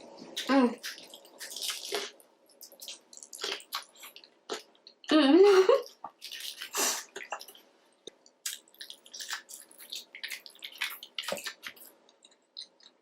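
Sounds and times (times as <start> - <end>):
person chewing wetly: 0.4 - 5.1, 5.8 - 13.0.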